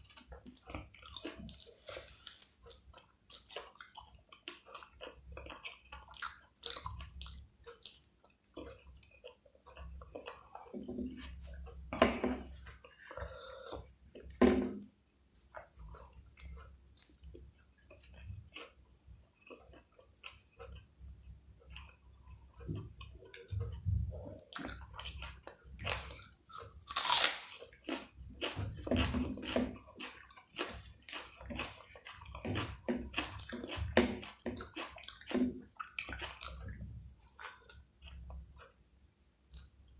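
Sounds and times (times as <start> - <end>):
chewing and mouth smacks: 0.0 - 11.9, 15.4 - 39.9.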